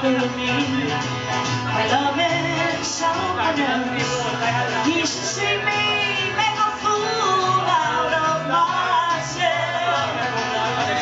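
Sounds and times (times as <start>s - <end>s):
woman singing: 0.0s - 1.0s, 1.7s - 11.0s
electric guitar: 0.0s - 11.0s
upright bass: 0.0s - 11.0s.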